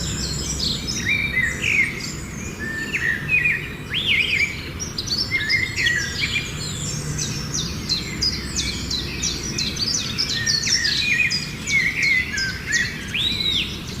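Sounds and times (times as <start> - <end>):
birds chirping: 0.0 - 14.0
faint background hum: 0.0 - 14.0
lower warbling bird calls: 0.0 - 14.0.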